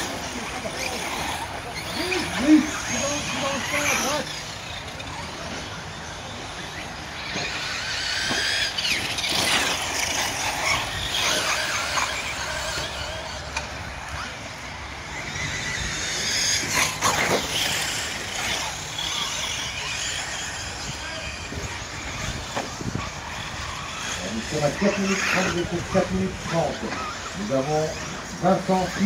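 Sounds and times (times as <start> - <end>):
rc car motors whining: 0.0 - 29.0.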